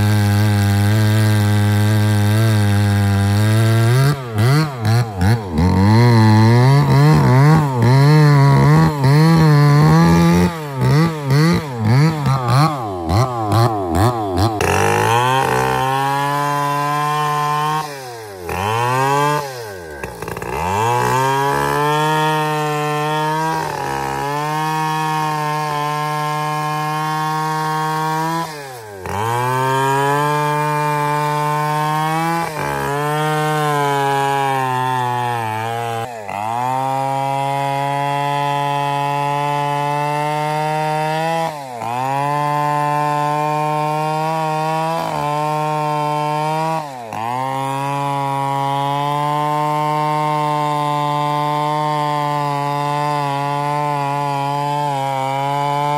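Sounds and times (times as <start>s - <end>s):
chainsaw cutting tree trunk: 0.0s - 55.9s.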